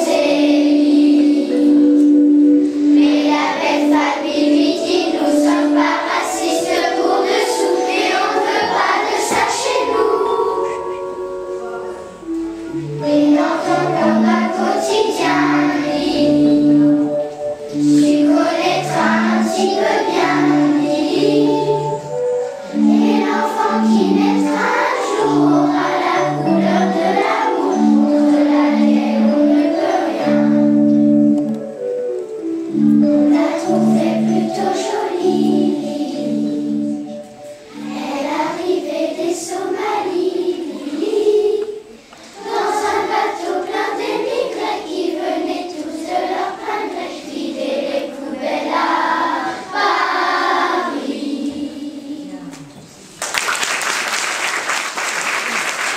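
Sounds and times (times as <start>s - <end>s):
children's choir singing: 0.0s - 55.9s
instrumental accompaniment: 0.0s - 55.9s.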